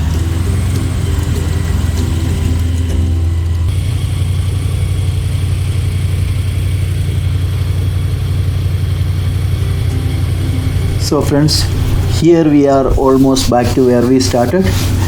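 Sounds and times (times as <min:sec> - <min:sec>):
airboat engine droning: 0:00.0 - 0:15.0.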